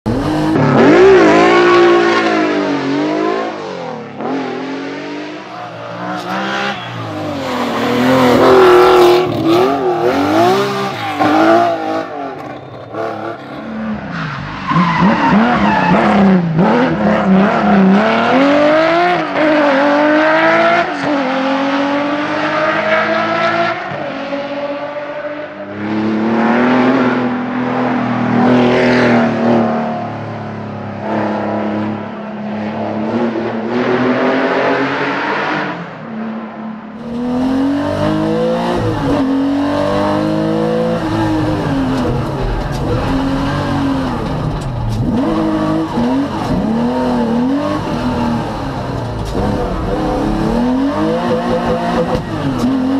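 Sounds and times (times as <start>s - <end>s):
rally car engine revving: 0.0s - 30.1s, 37.0s - 52.9s.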